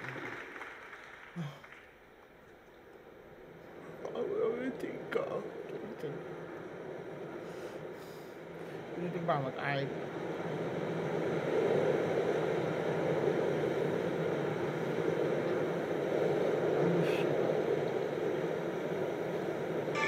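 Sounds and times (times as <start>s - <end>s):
steady rushing noise: 3.0s - 20.0s.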